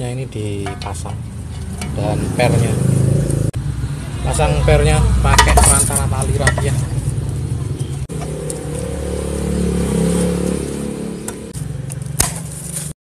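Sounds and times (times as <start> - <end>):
vehicle engine running: 0.4 - 12.8.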